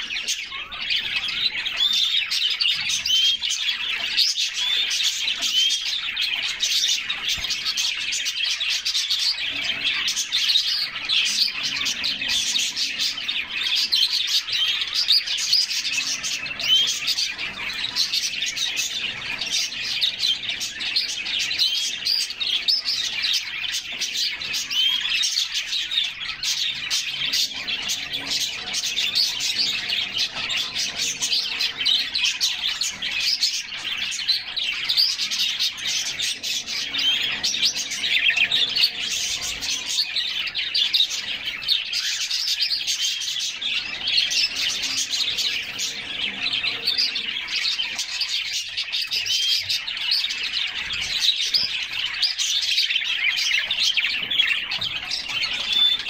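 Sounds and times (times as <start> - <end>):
canaries chirping and singing: 0.0 - 56.0.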